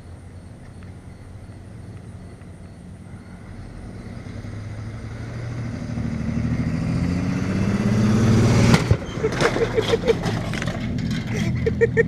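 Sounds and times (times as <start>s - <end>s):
vehicle engine approaching: 0.0s - 12.0s.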